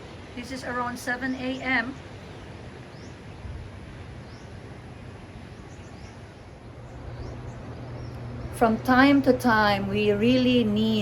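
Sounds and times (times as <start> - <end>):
low outdoor rumble and hiss: 0.0 - 11.0.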